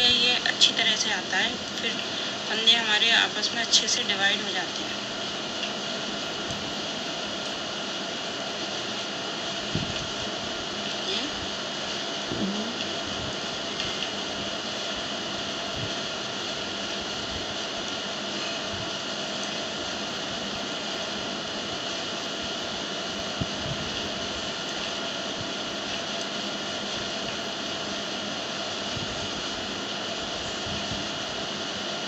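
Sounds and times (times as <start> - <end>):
motor-driven machine droning: 0.0 - 32.0.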